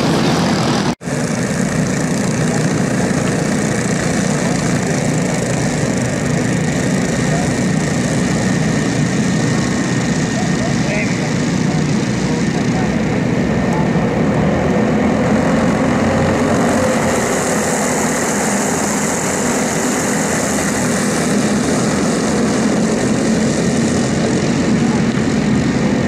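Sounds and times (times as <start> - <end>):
go-kart engines buzzing: 0.0 - 26.0.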